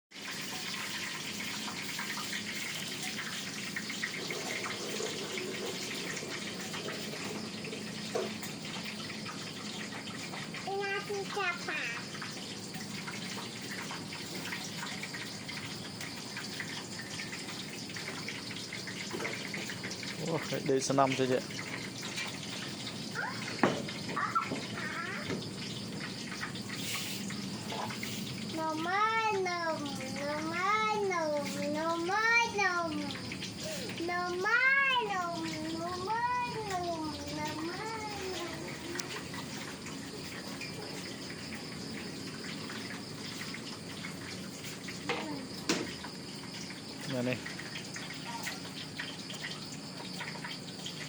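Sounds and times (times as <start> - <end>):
tap water running: 0.1 - 51.0.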